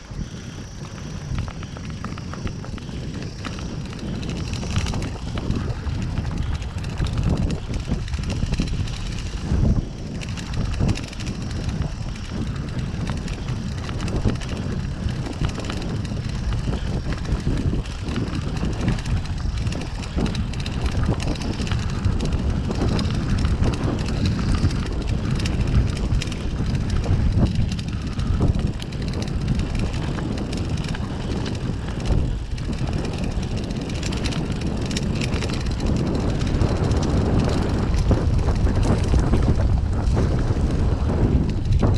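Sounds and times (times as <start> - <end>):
wind and tyres rumble: 0.0 - 41.9
bike knocks and rattles: 0.2 - 41.9.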